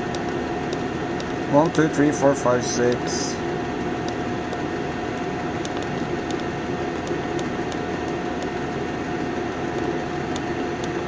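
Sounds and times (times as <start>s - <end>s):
air heater blower and burner: 0.0s - 11.0s
constant hum: 0.0s - 11.0s.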